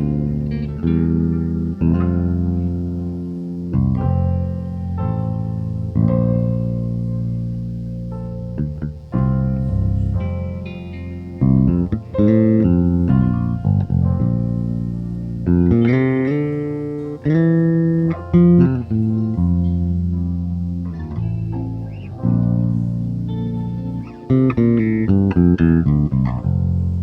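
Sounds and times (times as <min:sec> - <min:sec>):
electric bass long notes: 0:00.0 - 0:27.0.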